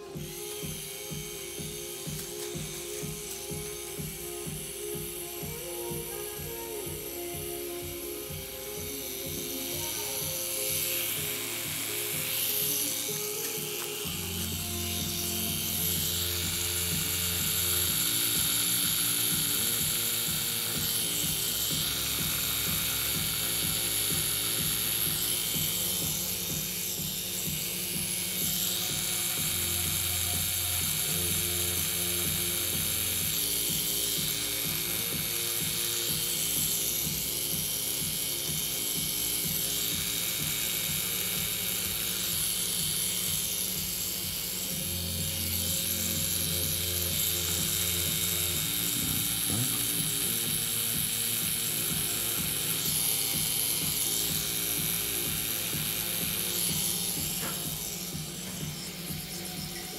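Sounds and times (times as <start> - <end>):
background music: 0.0 - 59.9
tattoo machine running: 0.0 - 59.9.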